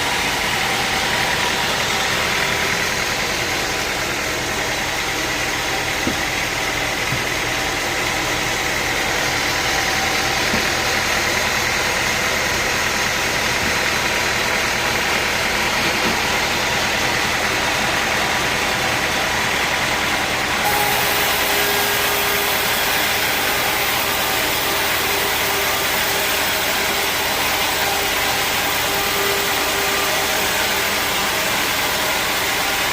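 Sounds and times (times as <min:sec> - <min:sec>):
sawmill machinery drone: 0:00.0 - 0:32.9
steady machine whine: 0:00.0 - 0:32.9.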